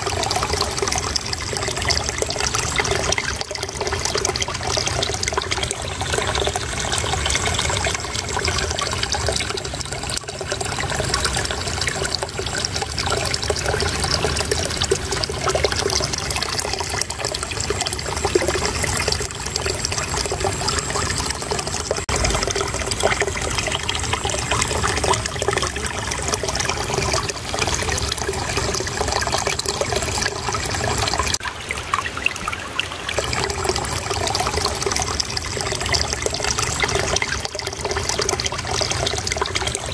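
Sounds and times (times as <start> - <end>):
shallow water babbling: 0.0 - 39.9.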